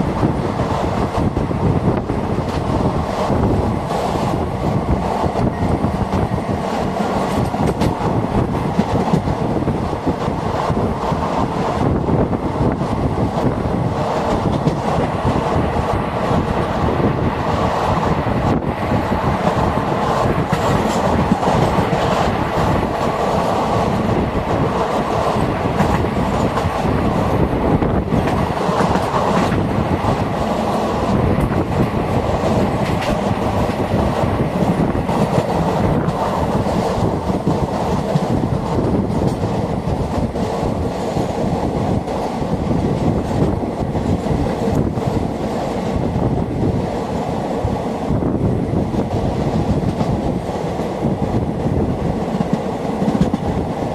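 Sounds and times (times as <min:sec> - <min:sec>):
clickety-clack over rail joints: 0:00.0 - 0:53.9
train wheels rumbling on track: 0:00.0 - 0:53.9.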